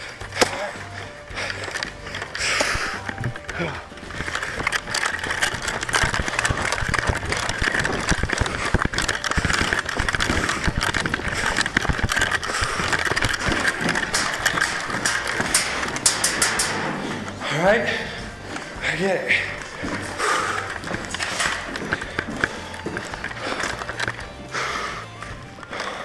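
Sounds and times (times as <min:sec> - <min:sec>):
footsteps crunching on gravel: 0:00.0 - 0:26.0
gear rustling: 0:00.0 - 0:26.0.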